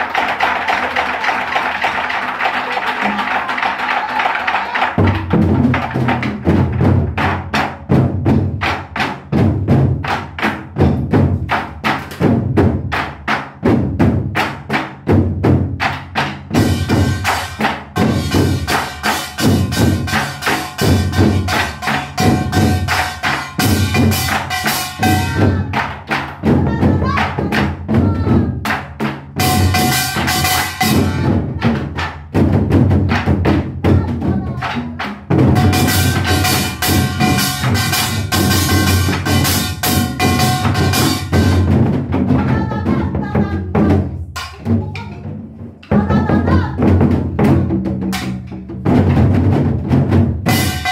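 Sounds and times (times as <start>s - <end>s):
drums beaten with sticks: 0.0s - 50.9s.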